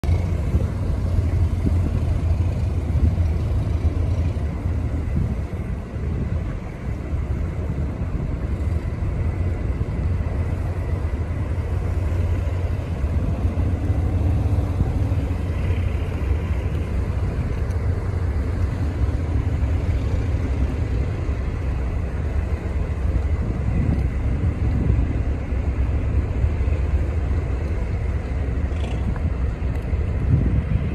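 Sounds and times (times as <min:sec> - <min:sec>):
boat engine droning: 0:00.0 - 0:30.9
water rushing along hull: 0:00.0 - 0:30.9.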